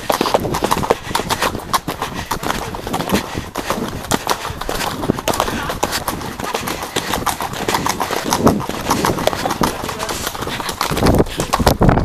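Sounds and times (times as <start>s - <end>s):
hooves on dirt track: 0.0s - 12.0s.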